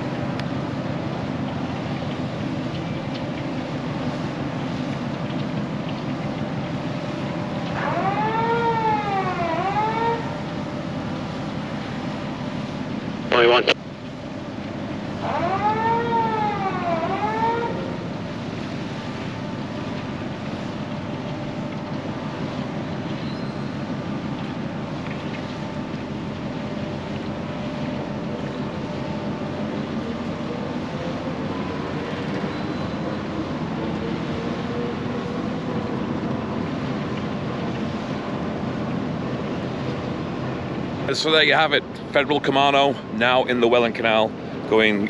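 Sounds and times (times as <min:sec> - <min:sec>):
ship engine rumble: 0:00.0 - 0:45.0
wind: 0:00.0 - 0:45.0.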